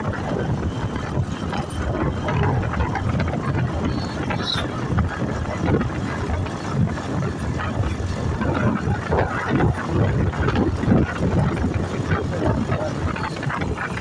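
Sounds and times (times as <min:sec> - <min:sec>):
vehicle engine and road noise: 0:00.0 - 0:14.0
wind gusts on microphone: 0:00.0 - 0:14.0.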